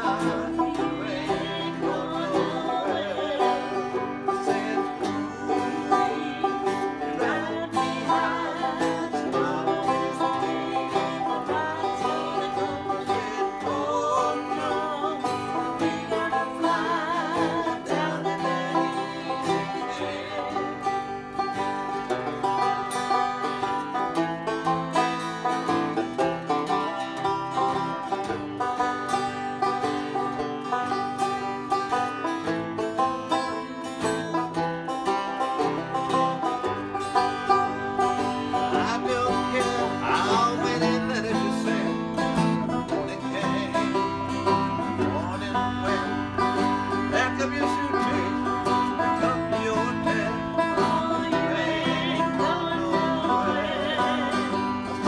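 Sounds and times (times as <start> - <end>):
acoustic guitar chords: 0.0 - 55.0
banjo plucking: 0.0 - 55.0.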